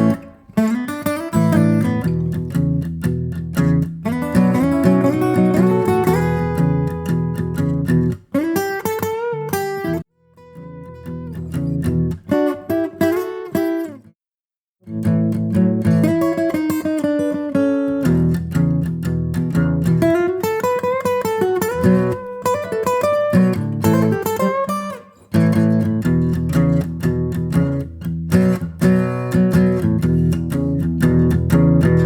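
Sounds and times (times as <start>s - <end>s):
acoustic guitar music: 0.0s - 14.1s, 14.8s - 32.0s.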